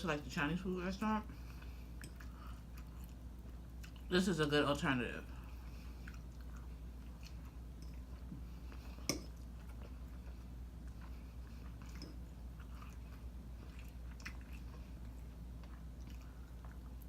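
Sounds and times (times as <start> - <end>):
steady low hum: 0.0 - 17.0
chewing food: 1.2 - 4.2, 5.3 - 17.0.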